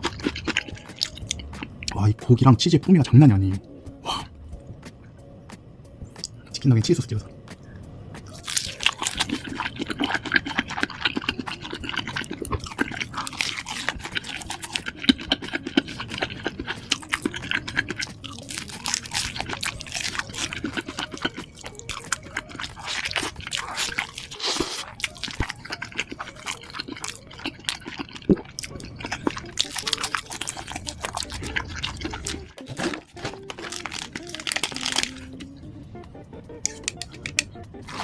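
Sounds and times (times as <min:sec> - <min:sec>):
chewing and crunching: 0:00.0 - 0:02.0, 0:08.2 - 0:35.5, 0:36.6 - 0:38.0.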